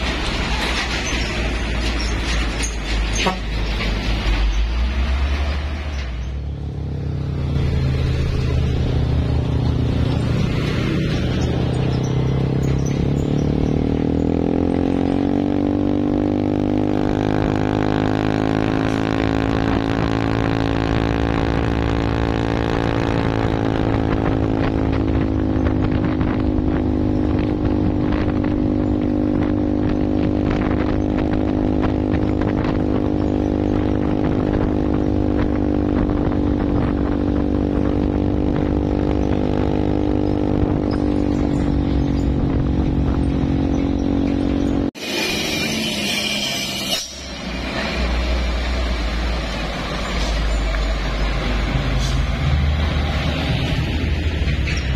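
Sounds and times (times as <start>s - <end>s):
vehicle engine at high revs: 0.0s - 54.9s.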